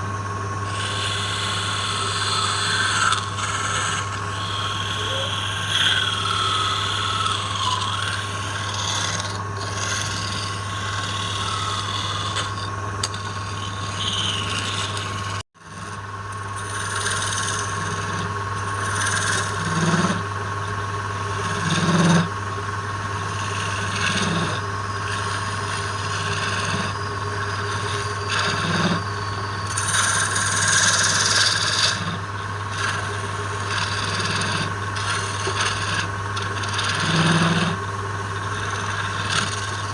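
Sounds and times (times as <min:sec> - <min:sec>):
tool scraping spinning wood: 0:00.0 - 0:39.9
wood lathe humming: 0:00.0 - 0:39.9.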